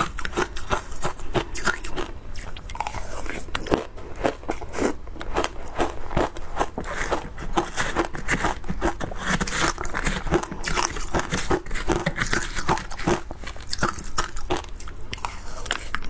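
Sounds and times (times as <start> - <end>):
crunching and chewing ice: 0.0 - 16.0.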